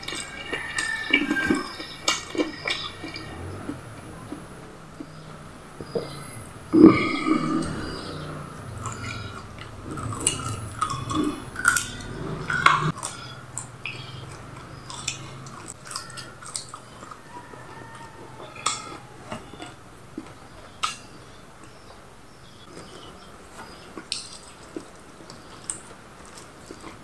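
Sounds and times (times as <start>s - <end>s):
chewing and lip-smacking: 0.0s - 8.0s, 8.8s - 21.9s, 22.7s - 27.0s.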